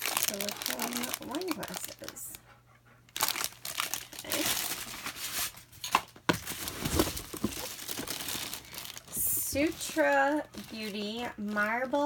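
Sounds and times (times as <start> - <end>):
paper and plastic crinkling: 0.0 - 2.4, 3.1 - 12.0.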